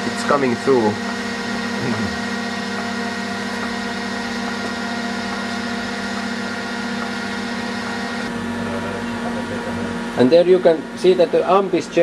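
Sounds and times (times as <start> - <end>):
welding machine humming and hissing: 0.0 - 12.0.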